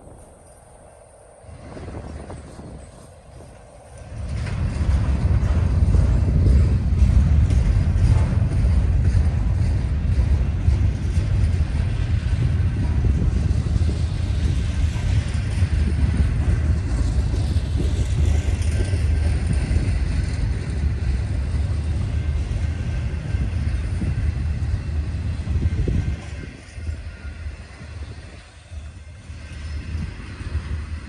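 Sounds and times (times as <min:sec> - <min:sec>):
freight train wheels rumbling on rail: 0:00.0 - 0:31.0.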